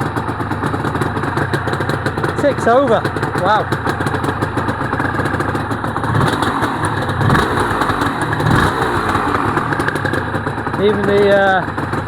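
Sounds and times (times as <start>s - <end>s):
two-stroke motorcycle engine idling: 0.0s - 12.0s.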